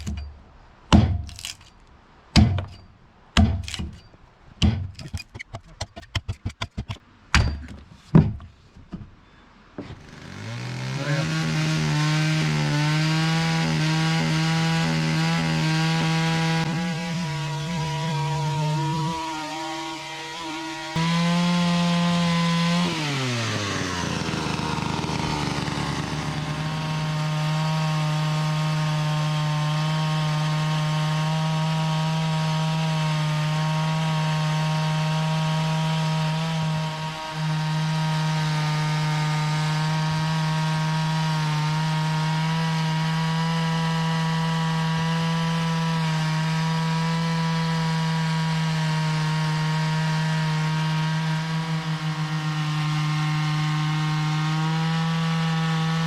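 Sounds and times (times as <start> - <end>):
gas engine saw cutting wood: 9.8 - 56.0.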